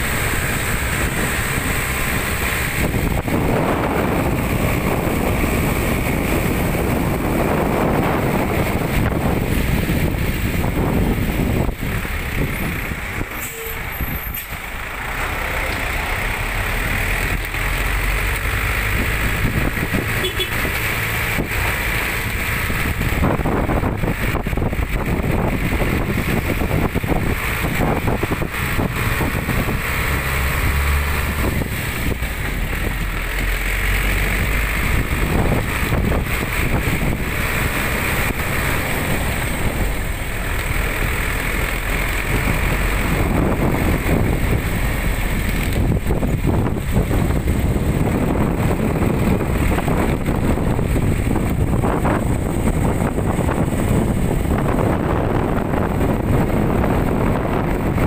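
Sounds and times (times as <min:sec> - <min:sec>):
road noise: 0:00.0 - 0:58.0
truck engine: 0:00.0 - 0:58.0.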